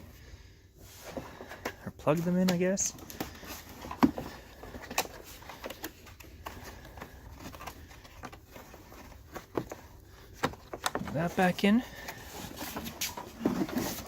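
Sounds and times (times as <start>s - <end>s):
hands handling plastic parts: 0.8s - 14.0s.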